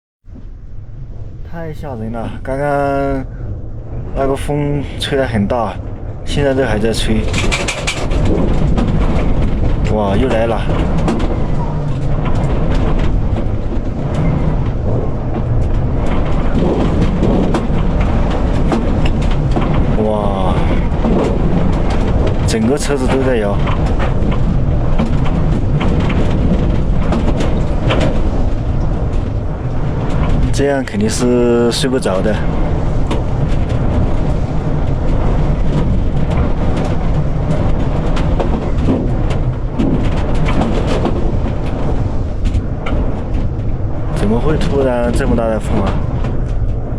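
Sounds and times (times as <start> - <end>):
strong wind rumbling: 0.2 - 46.9
vehicle body rattling and knocking: 5.5 - 46.9.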